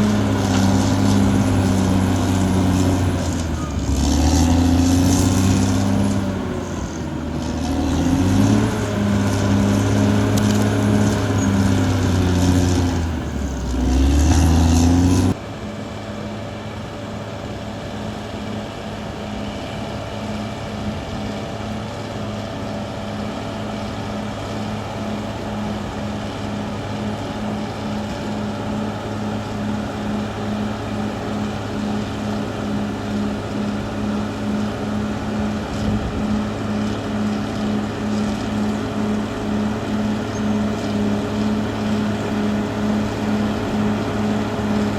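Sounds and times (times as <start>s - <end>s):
bulldozer diesel engine working: 0.0s - 44.9s.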